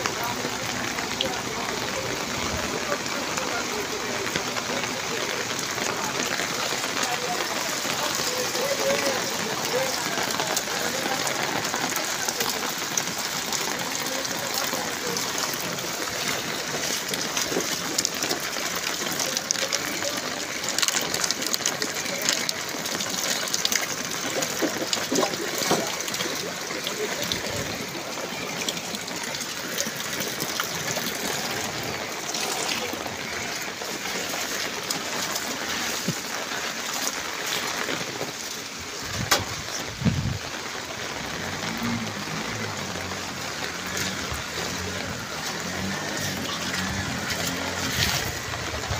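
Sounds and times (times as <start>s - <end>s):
heavy rain on flooded street: 0.0s - 48.9s.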